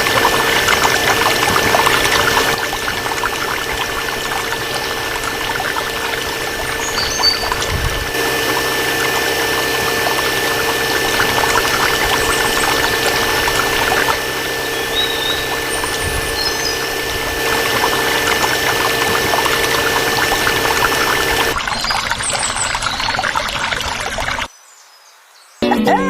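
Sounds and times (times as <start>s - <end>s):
small motor humming: 0.0s - 21.6s
pouring rushing noise: 0.0s - 24.5s.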